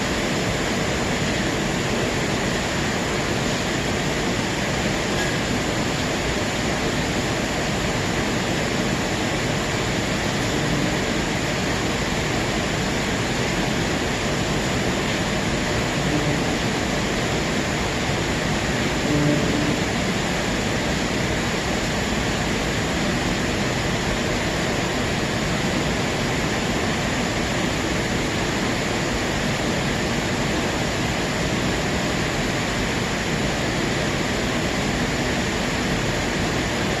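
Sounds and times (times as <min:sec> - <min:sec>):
aquarium water and filter flow: 0:00.0 - 0:37.0.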